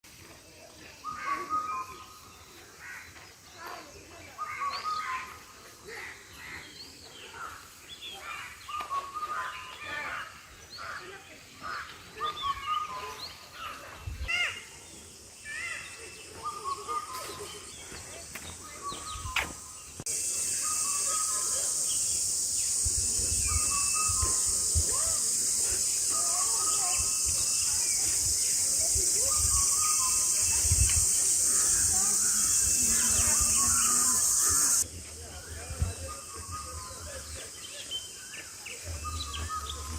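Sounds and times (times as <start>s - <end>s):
high-pitched hiss: 0.2s - 39.9s
birds whistling calls: 1.0s - 2.7s, 4.3s - 11.0s, 11.6s - 39.9s.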